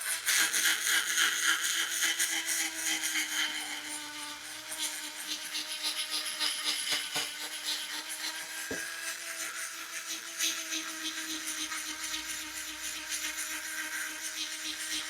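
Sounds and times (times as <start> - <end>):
sanding scrape: 0.1 - 15.0.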